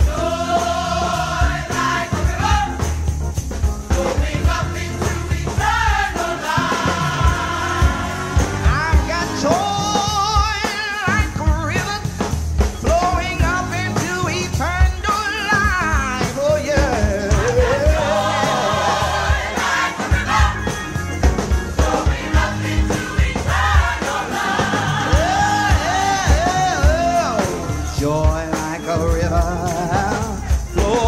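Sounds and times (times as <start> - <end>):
group of vocalists singing: 0.0 - 3.2, 3.8 - 11.2, 15.0 - 31.0
drum kit: 0.0 - 31.0
stage piano: 0.0 - 31.0.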